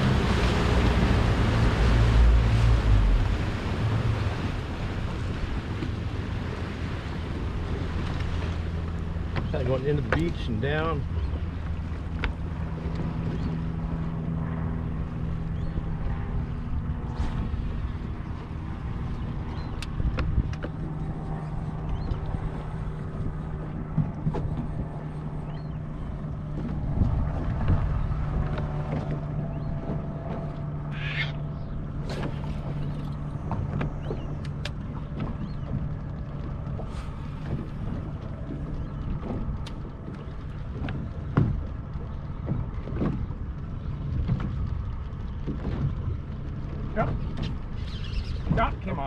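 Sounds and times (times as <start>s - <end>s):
boat engine humming: 0.0s - 49.0s.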